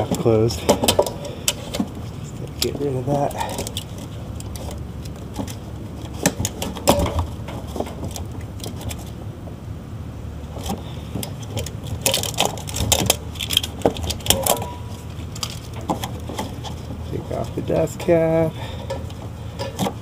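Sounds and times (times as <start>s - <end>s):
clicks and knocks of handling: 0.0s - 9.2s, 10.6s - 17.6s, 18.8s - 20.0s
steady low hum: 0.0s - 20.0s.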